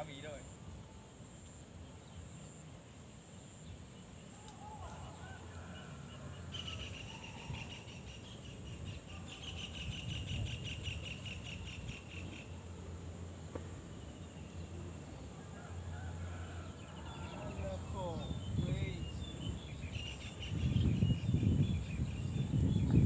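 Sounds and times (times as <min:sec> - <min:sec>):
insect high-pitched drone: 0:00.0 - 0:23.0
insect pulsed chirping: 0:00.0 - 0:23.0.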